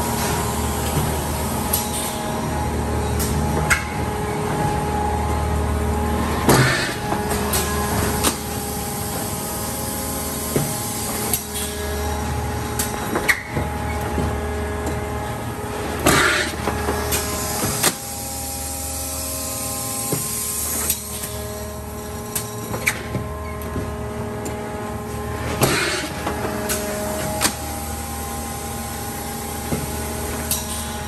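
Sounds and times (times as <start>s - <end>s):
machinery hum and motor tones: 0.0s - 31.0s.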